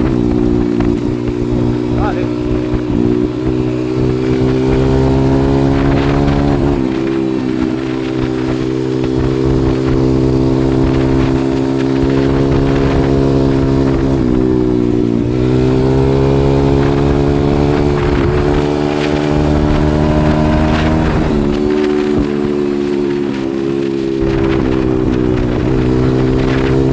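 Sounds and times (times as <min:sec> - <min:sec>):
motorbike engine running: 0:00.0 - 0:26.9.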